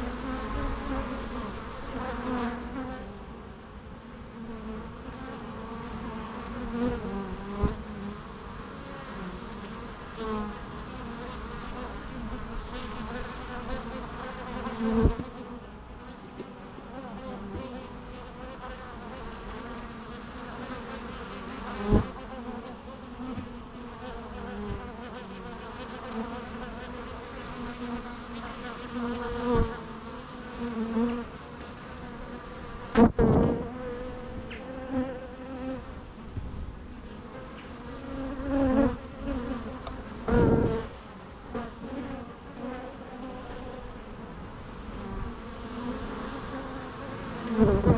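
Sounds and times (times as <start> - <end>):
bee passing close buzz: 0.0 - 47.9
bees buzzing: 0.0 - 47.9.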